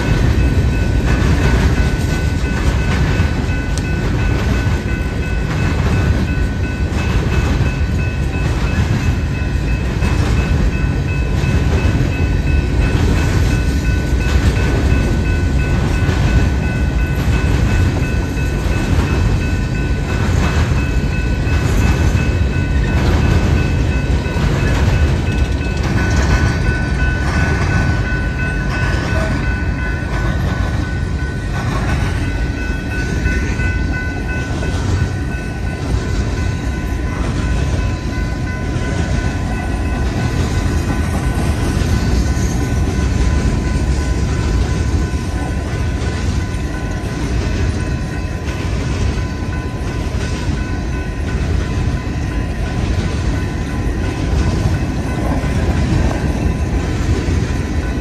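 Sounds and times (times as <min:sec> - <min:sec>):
train rumble: 0:00.0 - 0:58.0
train wheels clacking: 0:00.0 - 0:58.0
steady high tone: 0:01.6 - 0:58.0.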